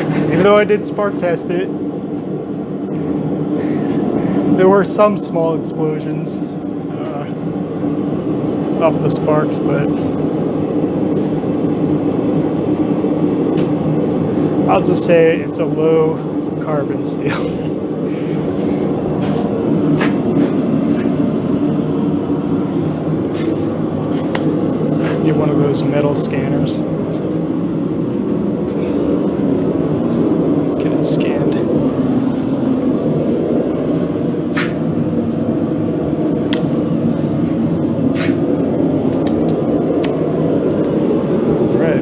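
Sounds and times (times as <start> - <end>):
forge running: 0.0 - 42.0
low hum: 0.0 - 42.0.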